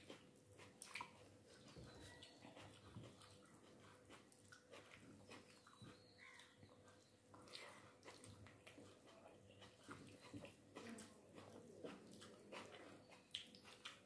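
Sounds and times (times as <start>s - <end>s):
fingers mixing rice on plate: 0.0s - 14.0s.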